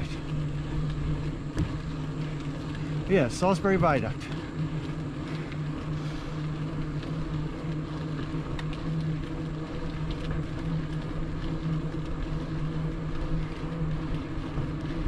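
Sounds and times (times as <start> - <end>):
bicycle tyre rumble: 0.0 - 15.0
faint ticks: 0.0 - 15.0
low pulsing hum: 0.0 - 15.0.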